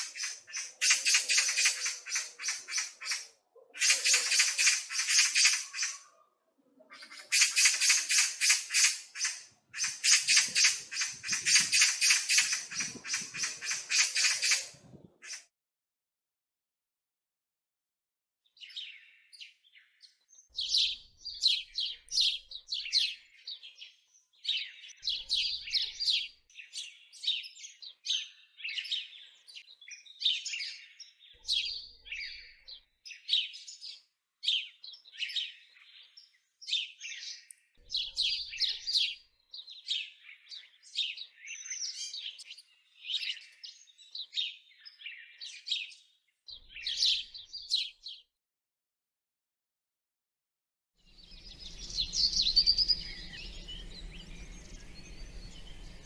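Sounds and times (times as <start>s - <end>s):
songbirds chirping and trilling: 0.0s - 15.5s, 18.4s - 48.3s, 51.0s - 56.0s.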